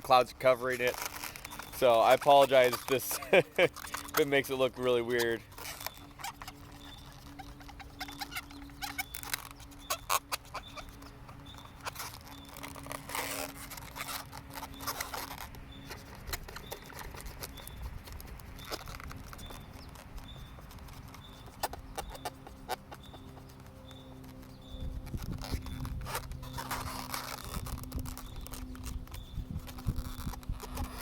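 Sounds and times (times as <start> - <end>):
balloons clicking and rubbing: 0.0 - 31.0.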